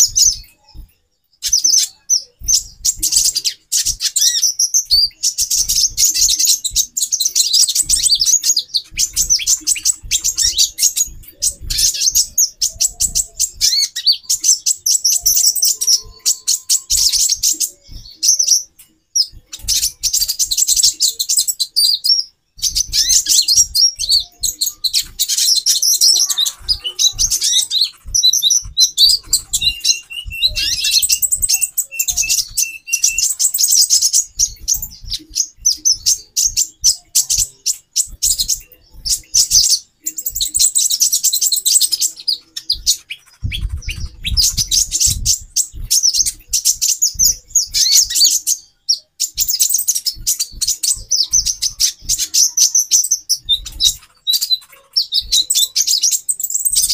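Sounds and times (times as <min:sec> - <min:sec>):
sunbirds chirping: 0:00.0 - 0:56.9.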